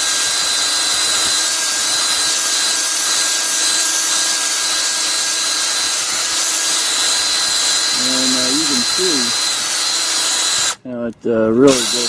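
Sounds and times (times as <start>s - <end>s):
power tool motor whine: 0.0s - 10.8s, 11.6s - 12.0s
wire brush scrubbing metal: 0.0s - 10.8s, 11.4s - 12.0s.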